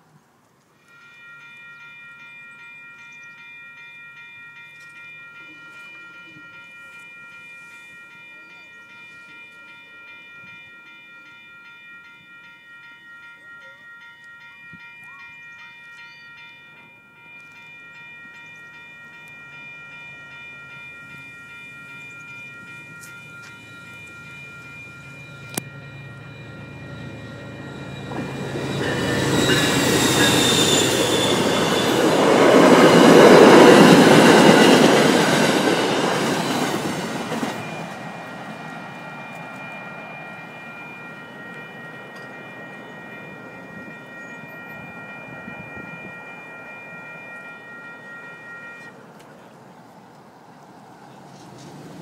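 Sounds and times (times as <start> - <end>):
train wheel and rail noise: 0.0 - 52.0
crossing signal bell ringing: 0.8 - 50.1.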